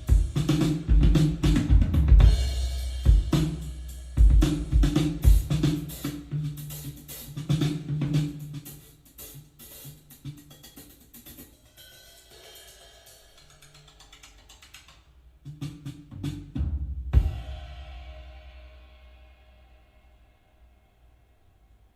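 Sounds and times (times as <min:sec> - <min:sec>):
drum kit music through speaker: 0:00.0 - 0:18.8.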